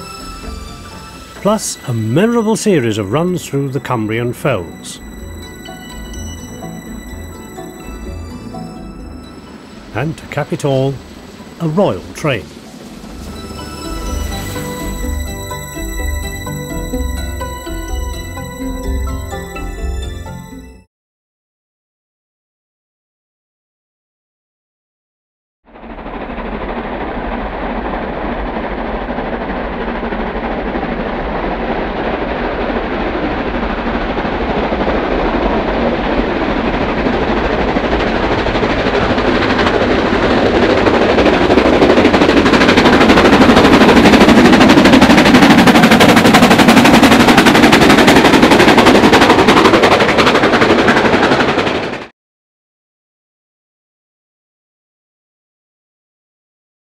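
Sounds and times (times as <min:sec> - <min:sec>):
steam locomotive exhaust beating: 0:00.0 - 0:20.7, 0:25.9 - 0:52.1.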